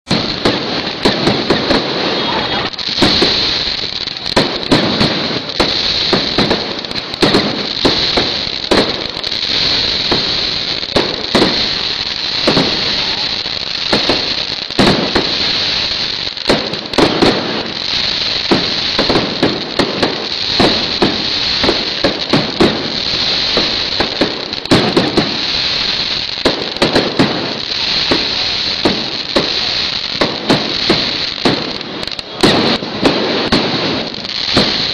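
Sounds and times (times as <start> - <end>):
fireworks bursts and bangs: 0.0 - 34.9
steady high hiss: 0.1 - 34.9.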